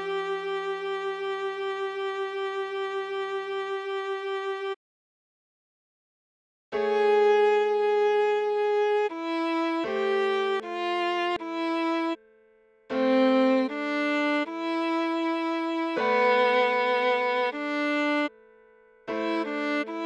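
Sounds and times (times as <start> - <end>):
viola slow melody: 0.0 - 4.8, 6.8 - 12.3, 12.9 - 20.0.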